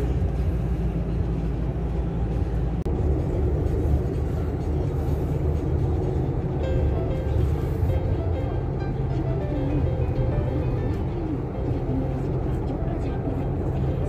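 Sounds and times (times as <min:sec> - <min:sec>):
car cabin road rumble: 0:00.0 - 0:14.0
faint music: 0:00.0 - 0:14.0.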